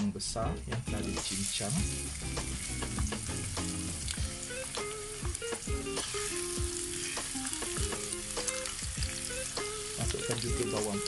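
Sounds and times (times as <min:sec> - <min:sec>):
onion sizzling in hot oil: 0:00.8 - 0:11.0.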